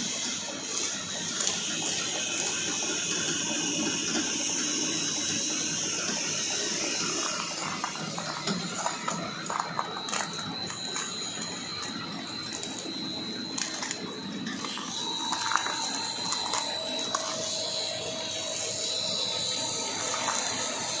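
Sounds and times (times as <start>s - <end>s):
high machine whine: 0.0s - 21.0s
machinery running: 0.0s - 21.0s.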